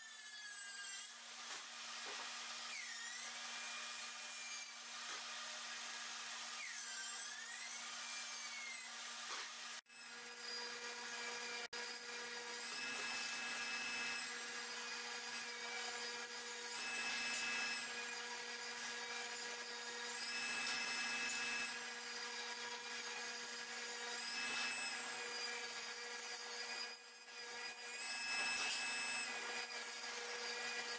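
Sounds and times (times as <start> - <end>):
table saw cutting wood: 0.0 - 30.9.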